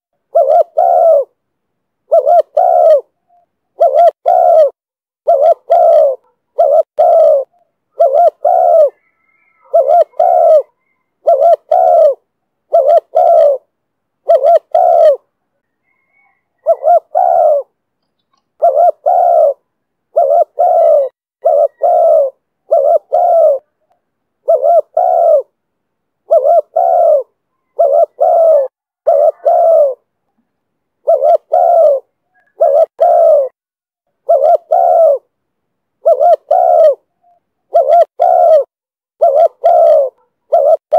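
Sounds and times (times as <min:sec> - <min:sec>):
dove cooing: 0:00.2 - 0:01.4, 0:02.0 - 0:25.6, 0:26.2 - 0:30.1, 0:31.0 - 0:33.6, 0:34.2 - 0:35.3, 0:36.0 - 0:40.9.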